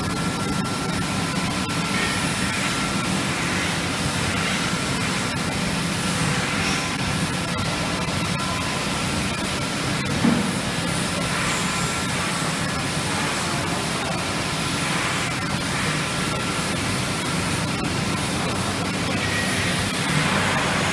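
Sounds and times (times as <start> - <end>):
factory hall rushing noise: 0.0 - 20.9.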